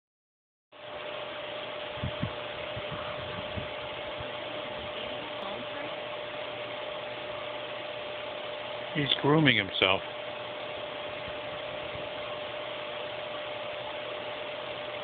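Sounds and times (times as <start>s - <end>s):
high whine: 0.8s - 15.0s
machine hum and hiss: 0.8s - 15.0s.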